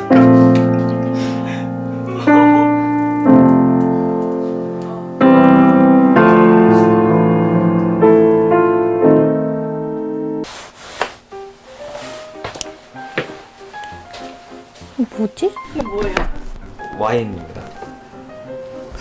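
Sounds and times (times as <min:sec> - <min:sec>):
piano playing slow hymn chords: 0:00.0 - 0:10.5, 0:11.3 - 0:19.0.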